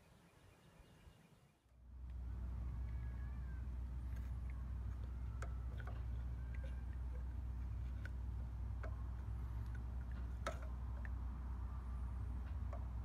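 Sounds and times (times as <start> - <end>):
steady low hum: 1.5 - 13.0.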